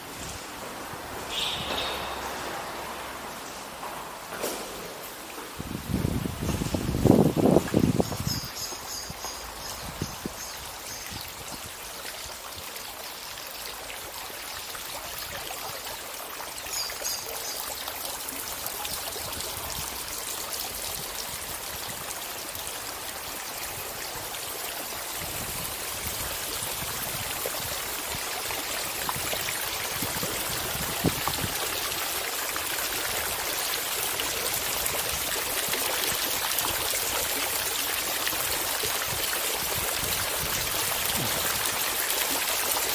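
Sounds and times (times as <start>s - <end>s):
fountain water splashing: 4.8s - 42.9s.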